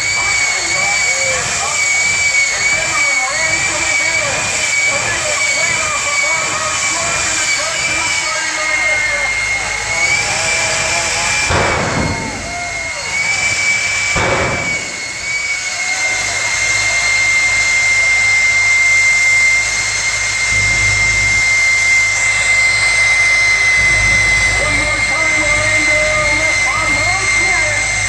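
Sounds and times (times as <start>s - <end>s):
bursts of exhaust flames: 0.0s - 28.0s
deep truck rumble: 0.0s - 28.0s
turbine engine whine: 0.0s - 28.0s.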